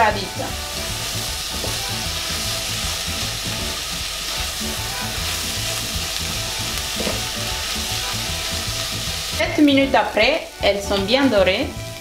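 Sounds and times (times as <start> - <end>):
onions sizzling in a saucepan: 0.0 - 12.0.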